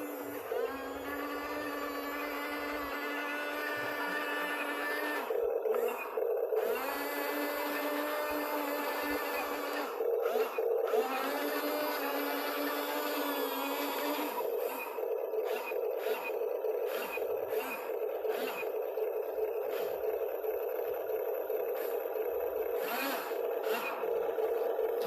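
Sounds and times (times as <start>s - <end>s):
excavator engine drone: 0.0s - 25.0s.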